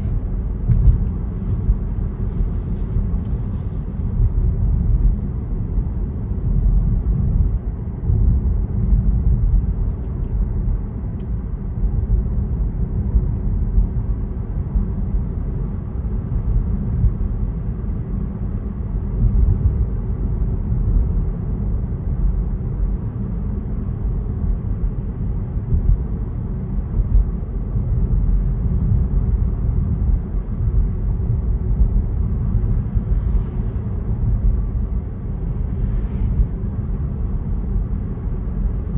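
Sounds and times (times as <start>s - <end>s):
car tyres and engine rumble: 0.0s - 38.9s.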